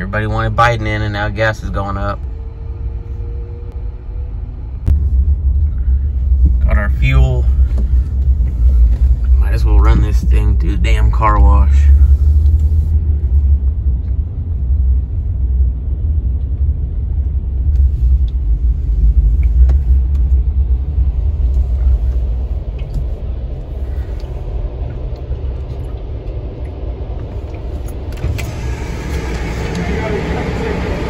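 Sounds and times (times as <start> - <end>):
vehicle rumble from inside cabin: 0.0 - 31.0.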